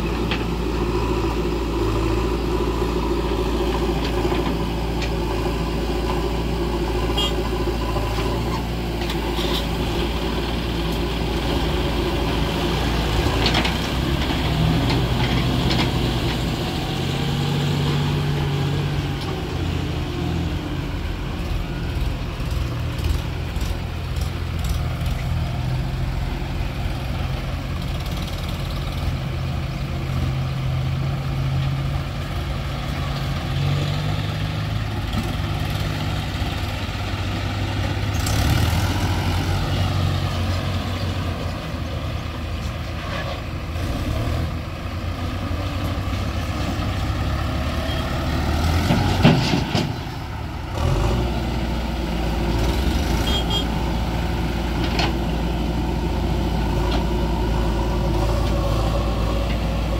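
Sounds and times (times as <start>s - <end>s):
diesel engines working: 0.0s - 59.9s.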